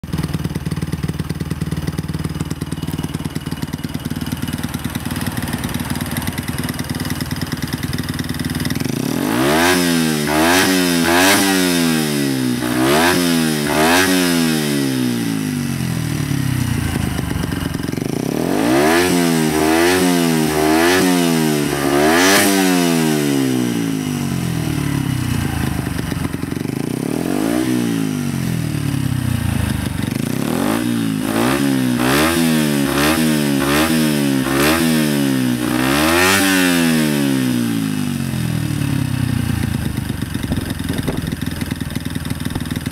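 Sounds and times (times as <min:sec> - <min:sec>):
motorcycle engine idling: 0:00.0 - 0:42.9
motorcycle throttle blips: 0:00.1 - 0:22.7, 0:23.3 - 0:32.3, 0:38.9 - 0:42.9.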